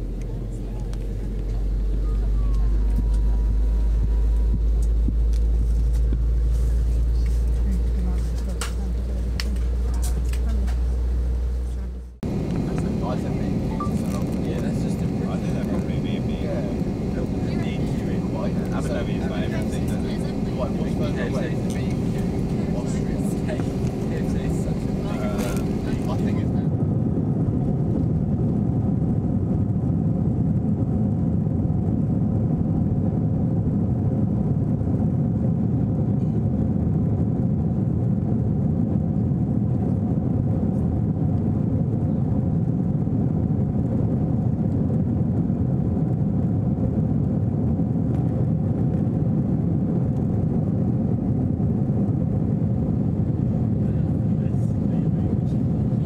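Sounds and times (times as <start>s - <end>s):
jet engines and airflow rumble: 0.0s - 56.0s.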